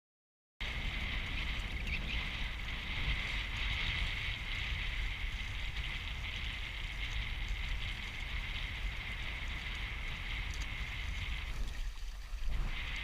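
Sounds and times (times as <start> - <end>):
wind buffeting the microphone: 0.6 - 13.0
water rushing past hulls: 0.7 - 13.0.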